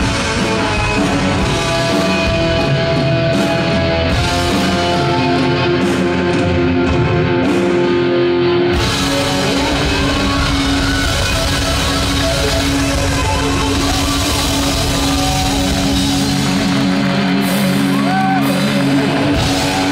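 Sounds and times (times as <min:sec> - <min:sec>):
live rock band playing: 0:00.0 - 0:19.9.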